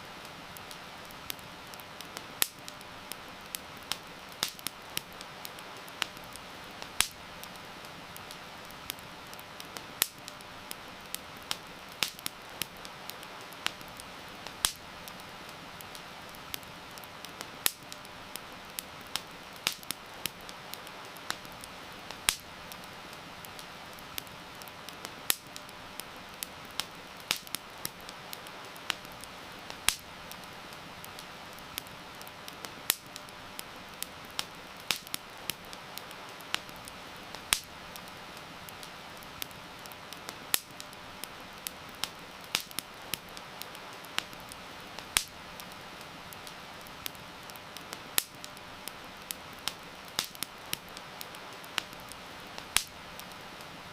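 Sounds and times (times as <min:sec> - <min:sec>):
campfire crackling: 0:00.0 - 0:53.9
heavy rain hiss: 0:00.0 - 0:53.9.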